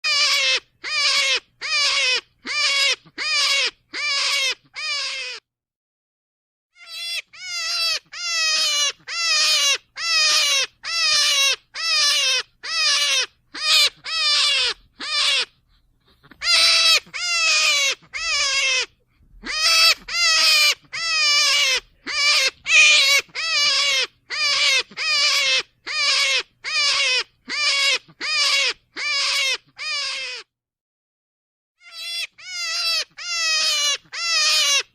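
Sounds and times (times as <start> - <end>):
animal quavering cries: 0.0 - 5.4, 6.8 - 30.5, 31.8 - 34.9.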